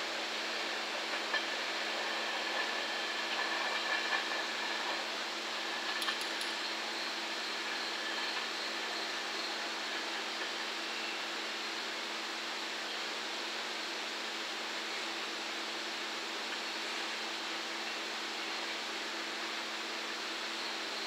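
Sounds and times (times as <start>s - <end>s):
freight train rolling on tracks: 0.0s - 21.0s.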